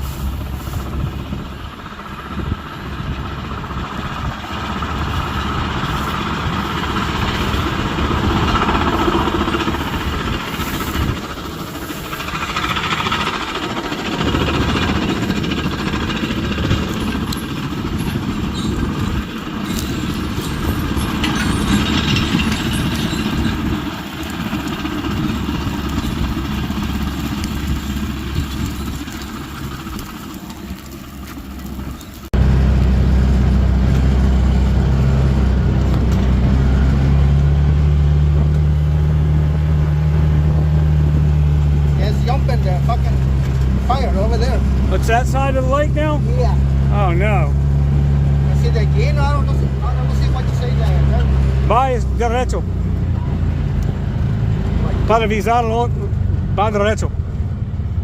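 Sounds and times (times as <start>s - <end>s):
heavy vehicle engine rumbling: 0.0s - 58.0s.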